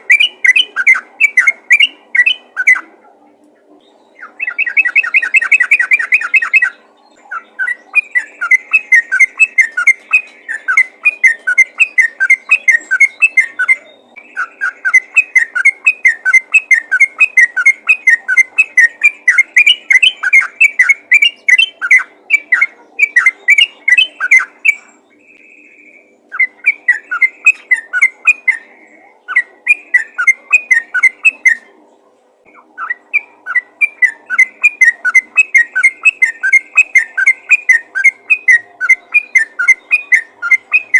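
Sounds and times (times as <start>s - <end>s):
bulbul singing chattering whistles: 0.0s - 2.9s, 3.8s - 31.7s, 32.4s - 40.9s
faint steady hum: 0.0s - 40.9s.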